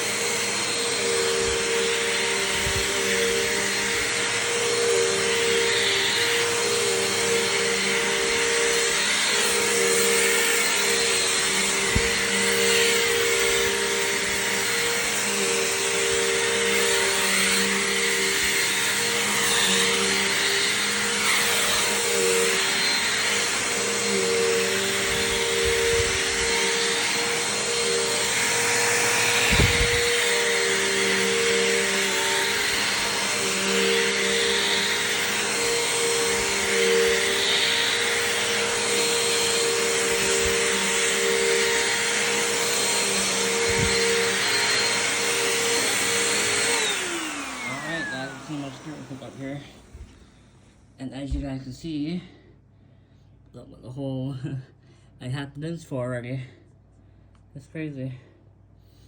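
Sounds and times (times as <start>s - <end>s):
upright vacuum running: 0.0s - 51.6s.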